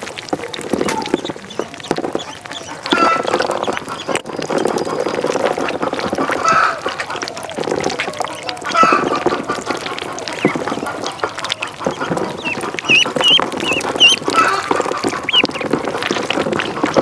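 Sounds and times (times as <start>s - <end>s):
water splashing: 0.0s - 17.0s
ducks quacking: 0.6s - 17.0s.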